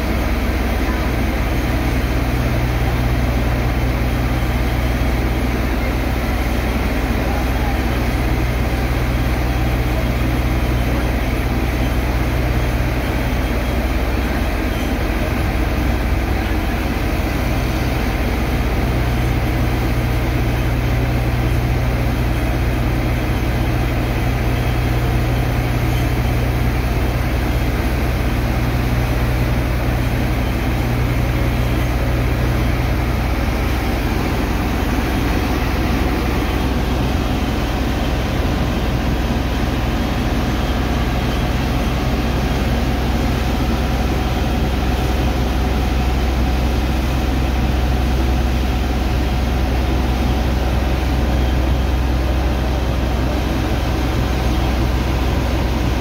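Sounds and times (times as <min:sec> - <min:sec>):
heavy engine humming: 0:00.0 - 0:56.0.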